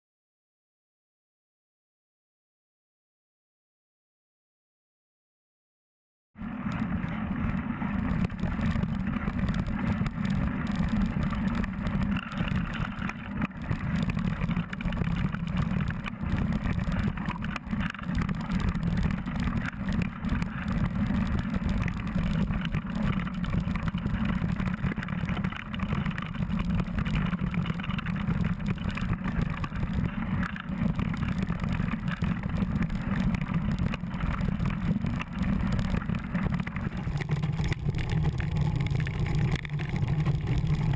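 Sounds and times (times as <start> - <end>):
wind rumble on microphone: 6.4 - 40.9
bike rattling: 6.6 - 40.9.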